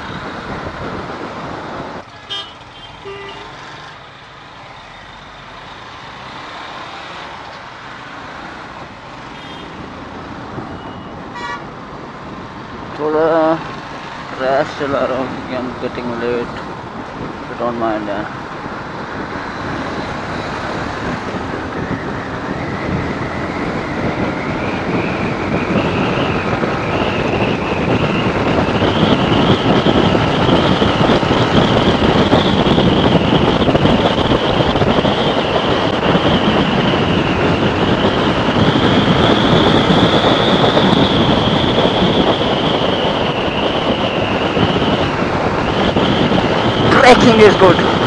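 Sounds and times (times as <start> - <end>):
wind noise on microphone: 0.0 - 2.0, 8.2 - 48.0.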